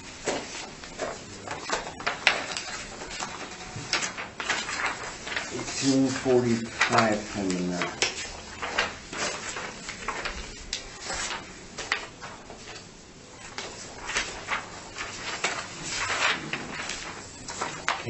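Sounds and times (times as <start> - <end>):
pages turning and shuffling: 0.0 - 18.0
paper rustling: 0.0 - 18.0.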